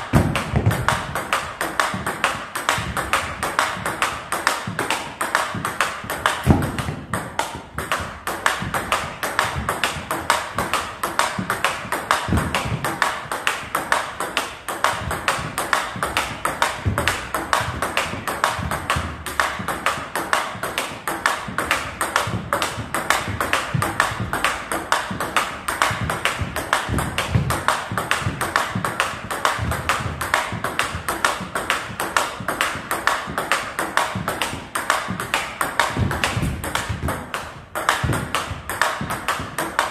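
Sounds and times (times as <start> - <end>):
ball clicking off paddles: 0.0 - 39.9
ball bouncing on table: 0.1 - 39.9.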